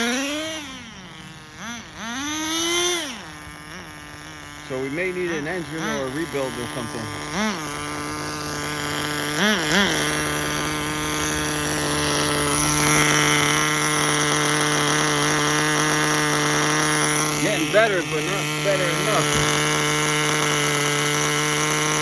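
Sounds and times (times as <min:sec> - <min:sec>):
engine revving: 0:00.0 - 0:22.0
nitro engine running at high speed: 0:00.0 - 0:22.0.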